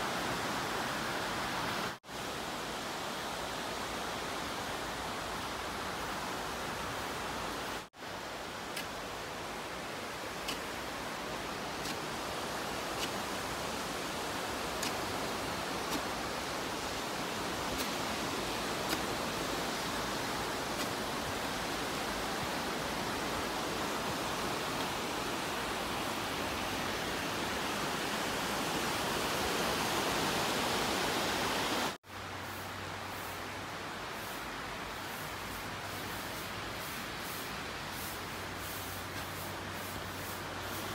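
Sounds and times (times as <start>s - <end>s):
small waves washing onto sand: 3.3s - 32.0s, 33.1s - 40.9s.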